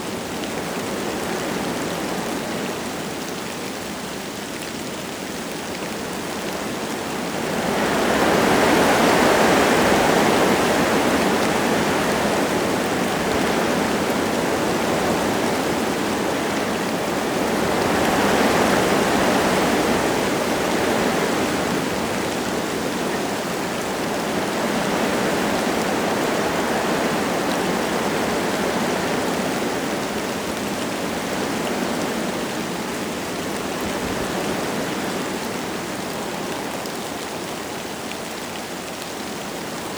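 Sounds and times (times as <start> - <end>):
light rain falling: 0.0 - 39.9
wind gusting through trees: 0.0 - 39.9.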